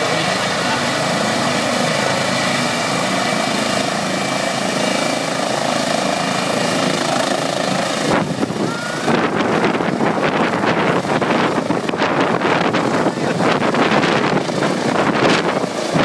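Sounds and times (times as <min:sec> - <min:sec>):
helicopter turbines and rotor: 0:00.0 - 0:16.0
wind buffeting microphone: 0:01.0 - 0:16.0.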